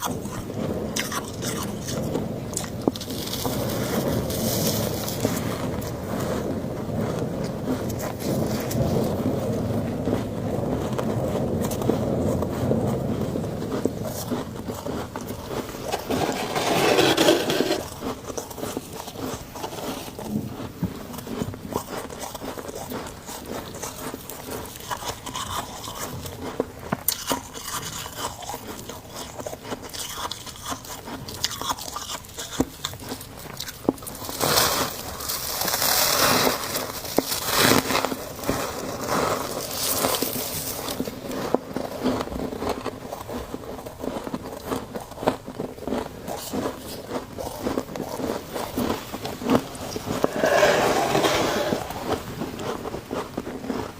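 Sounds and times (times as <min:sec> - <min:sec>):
chewing crunchy frost: 0:00.0 - 0:53.9.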